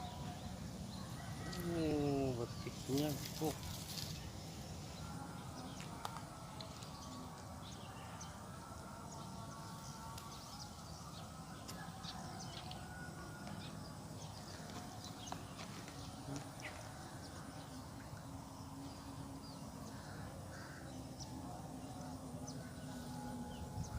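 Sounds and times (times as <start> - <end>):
small birds chirping: 0.0 - 8.4, 9.1 - 21.6
low background noise: 0.0 - 23.9.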